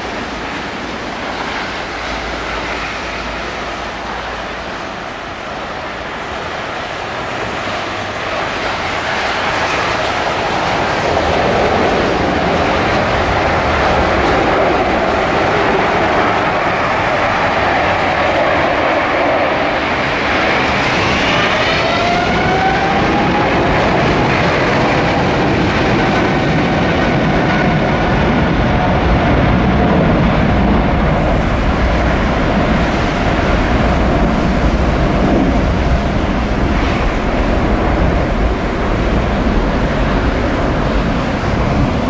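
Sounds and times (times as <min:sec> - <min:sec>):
jet engines at high thrust: 0:00.0 - 0:42.0.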